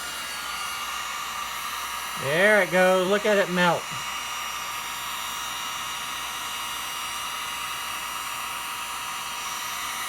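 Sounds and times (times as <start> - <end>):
heat gun blowing hot air: 0.0 - 10.0.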